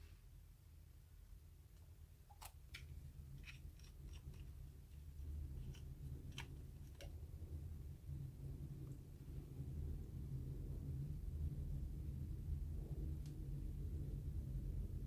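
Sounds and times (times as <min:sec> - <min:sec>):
low rumble: 0:02.9 - 0:15.0.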